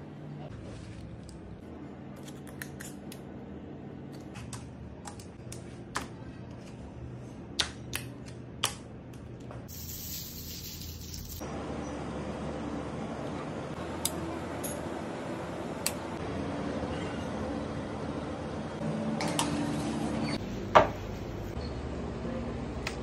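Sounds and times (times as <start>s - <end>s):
low kitchen hum: 0.0s - 23.0s.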